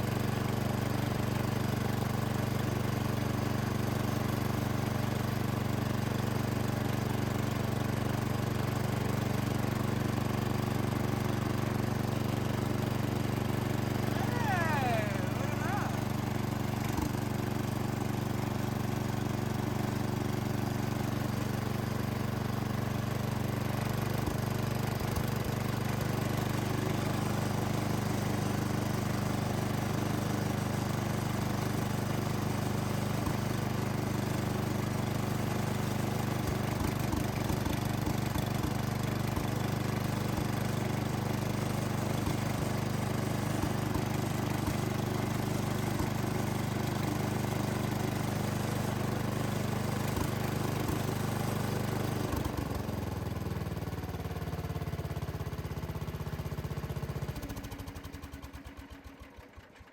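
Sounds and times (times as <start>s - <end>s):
garden tractor engine running: 0.0s - 59.9s.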